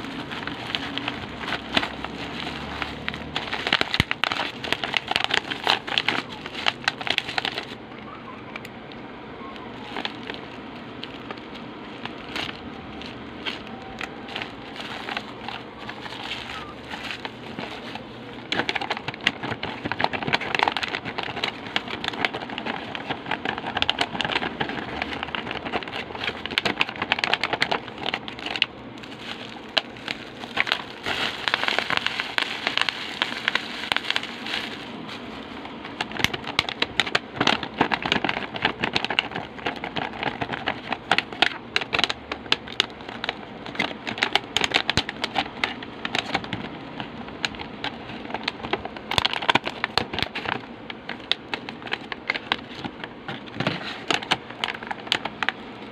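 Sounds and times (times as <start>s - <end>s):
plastic packaging crinkling: 0.0s - 7.8s, 9.5s - 55.9s.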